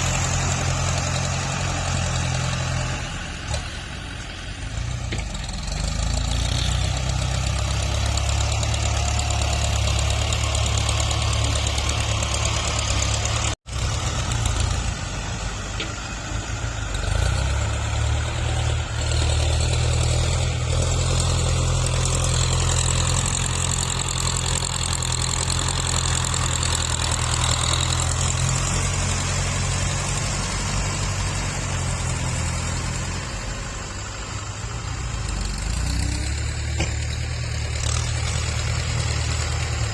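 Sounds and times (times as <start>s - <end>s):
tractor engine rumbling: 0.0s - 39.9s.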